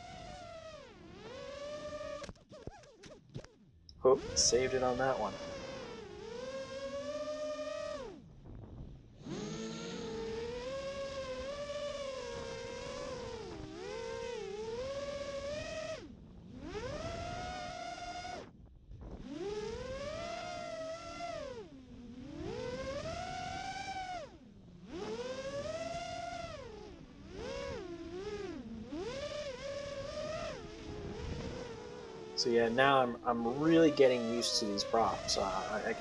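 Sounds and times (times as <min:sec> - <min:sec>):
drone motors whining: 0:00.0 - 0:36.0.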